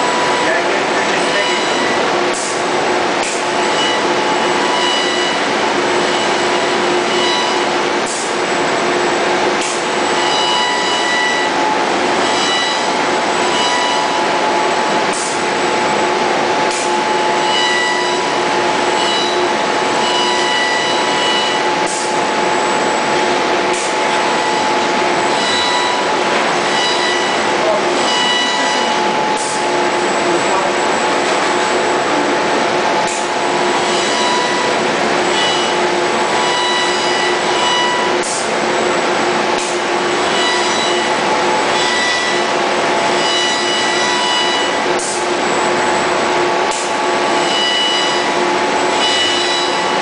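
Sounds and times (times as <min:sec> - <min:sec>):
high motor whines: 0:00.0 - 0:50.0
low machine hum: 0:00.0 - 0:50.0.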